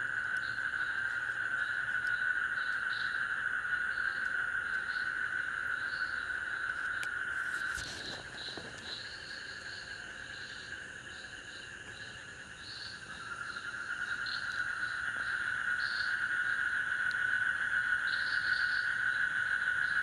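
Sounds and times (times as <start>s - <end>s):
high insect chirps: 0.0s - 20.0s
insects chorus at night: 0.0s - 20.0s.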